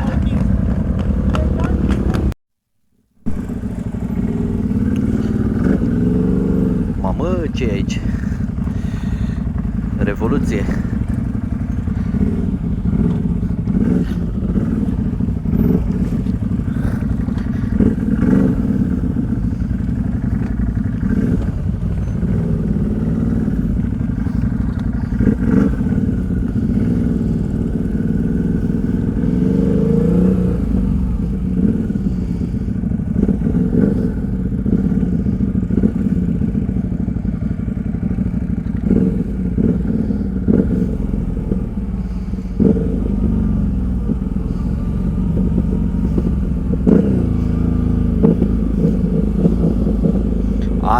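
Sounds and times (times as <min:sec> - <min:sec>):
atv engine revving: 0:00.0 - 0:02.4, 0:03.2 - 0:50.9.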